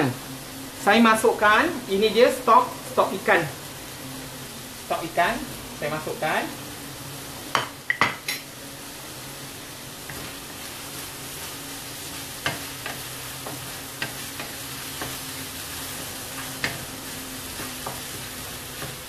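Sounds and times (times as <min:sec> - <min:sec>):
seafood sizzling in a frying pan: 0:00.0 - 0:19.0.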